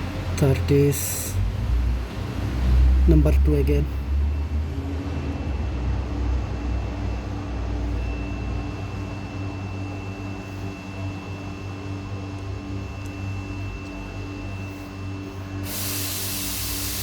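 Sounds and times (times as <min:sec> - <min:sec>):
low machine hum: 0:00.0 - 0:17.0
faint high whine: 0:03.1 - 0:17.0.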